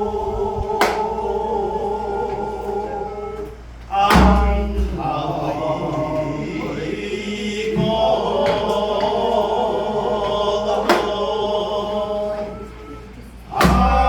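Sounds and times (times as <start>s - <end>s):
person singing long slow notes: 0.0s - 14.0s.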